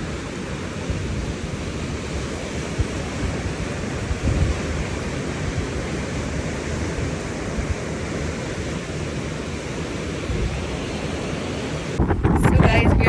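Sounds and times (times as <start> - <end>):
sea surf: 0.0 - 13.0
strong wind rushing: 0.0 - 13.0
wind rumbling on microphone: 0.0 - 13.0.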